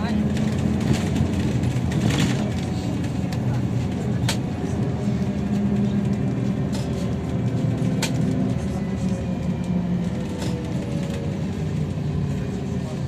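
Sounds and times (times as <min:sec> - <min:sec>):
trolleybus running and road noise: 0:00.0 - 0:13.0.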